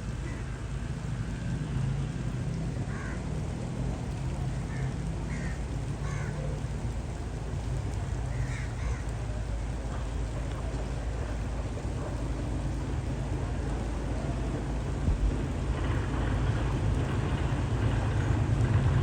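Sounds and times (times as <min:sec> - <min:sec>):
steady low rumble: 0:02.1 - 0:19.0.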